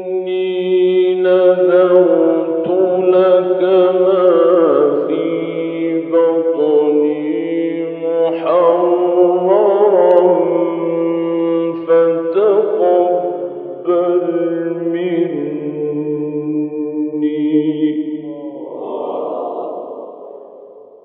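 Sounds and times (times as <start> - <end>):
man reciting melodically: 0.0 - 19.1.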